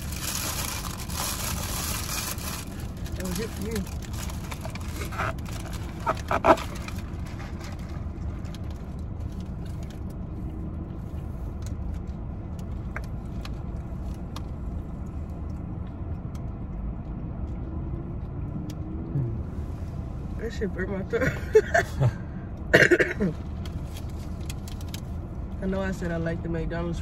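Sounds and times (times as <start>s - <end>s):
low car rumble: 0.0s - 27.0s.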